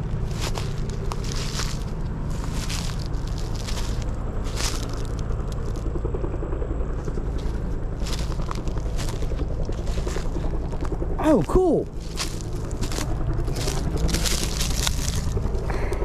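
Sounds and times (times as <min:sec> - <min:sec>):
footsteps crunching through dry grass: 0:00.0 - 0:06.1, 0:06.8 - 0:16.0
helicopter drone: 0:00.0 - 0:16.0.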